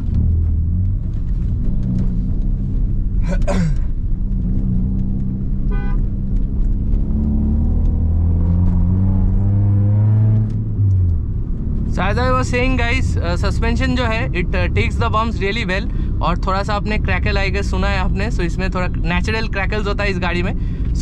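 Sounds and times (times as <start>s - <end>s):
car engine droning: 0.0s - 21.0s
exhaust crackle: 0.0s - 21.0s.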